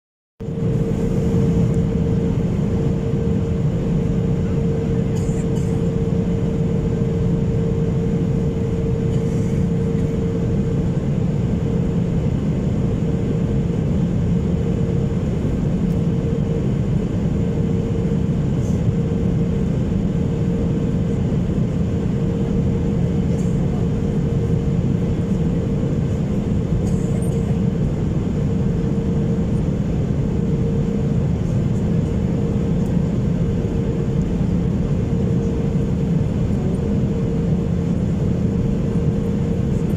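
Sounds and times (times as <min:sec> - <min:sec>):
airflow rush and engine drone: 0:00.4 - 0:39.9.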